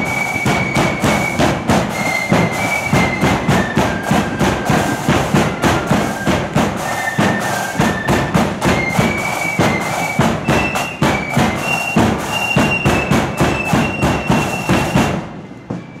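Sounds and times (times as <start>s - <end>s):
drums beating march: 0.0s - 16.0s
flutes playing melody: 0.0s - 16.0s.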